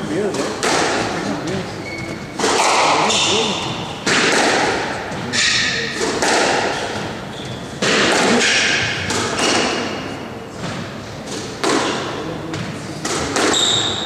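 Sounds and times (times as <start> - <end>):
squash ball thuds: 0.2 - 1.7, 2.3 - 7.2, 7.8 - 14.0.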